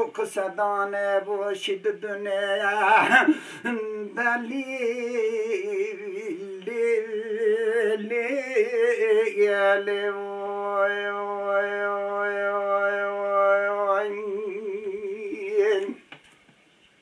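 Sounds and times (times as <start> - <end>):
man singing solo: 0.0 - 16.0.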